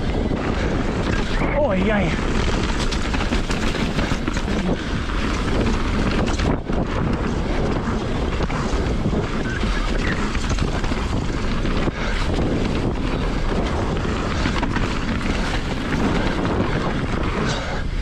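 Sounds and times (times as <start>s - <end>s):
tyres rolling on dirt: 0.0s - 17.8s
wind buffeting microphone: 0.0s - 18.0s.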